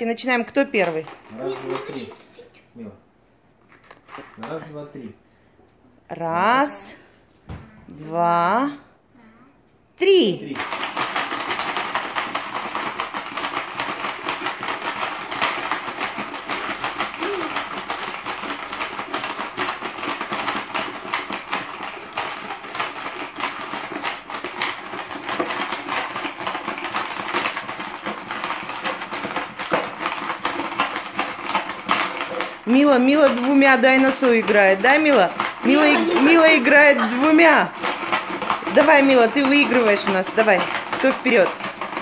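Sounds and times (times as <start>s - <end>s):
plastic balls rattling: 0.0s - 2.5s, 3.6s - 4.7s, 10.4s - 42.0s.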